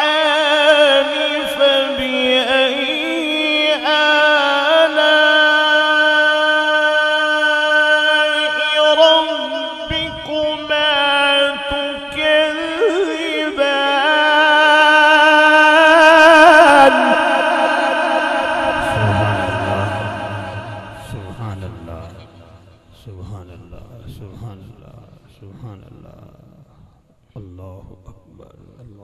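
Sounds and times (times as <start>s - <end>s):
man reciting melodically: 0.0s - 26.6s, 27.3s - 29.0s.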